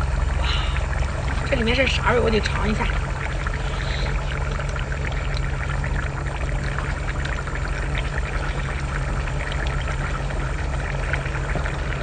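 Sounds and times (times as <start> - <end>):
bubbling crackling hiss of pot: 0.0 - 12.0
steady low hum: 0.0 - 12.0.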